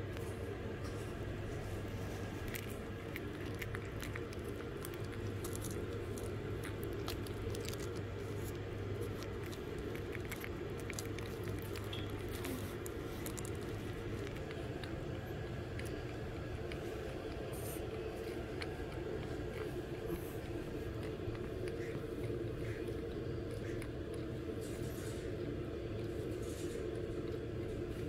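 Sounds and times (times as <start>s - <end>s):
low hum: 0.0s - 28.0s
puppies suckling wet clicks: 1.8s - 28.0s.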